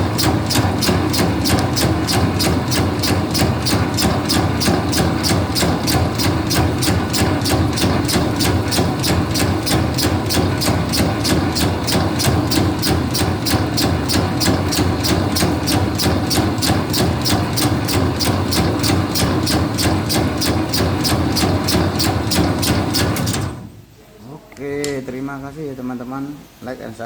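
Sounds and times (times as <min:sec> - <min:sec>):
rhythmic machine clicking: 0:00.0 - 0:23.6
machine motor hum: 0:00.0 - 0:23.8.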